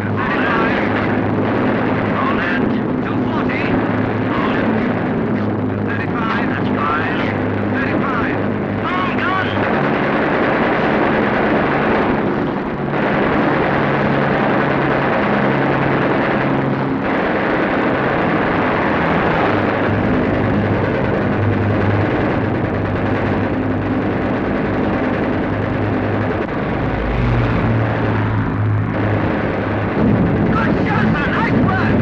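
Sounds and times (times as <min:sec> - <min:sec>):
piston aircraft engines droning: 0:00.0 - 0:32.0.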